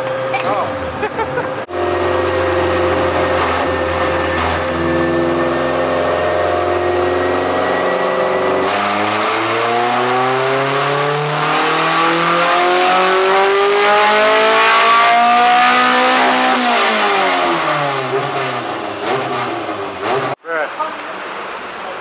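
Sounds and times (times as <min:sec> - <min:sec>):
car engine revving at full throttle: 0:00.0 - 0:20.4.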